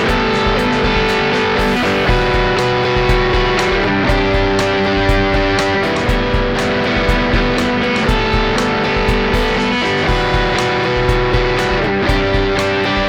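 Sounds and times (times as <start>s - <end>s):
electric guitar chords: 0.0s - 13.0s
steady rhythmic pulse: 0.0s - 13.0s.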